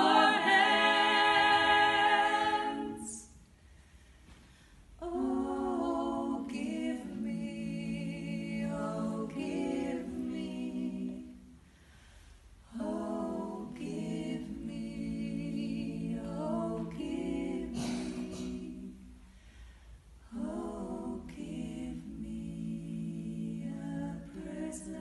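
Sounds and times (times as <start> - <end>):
women singing a cappella chords: 0.0 - 3.4, 5.0 - 11.8, 12.6 - 19.5, 20.2 - 25.0.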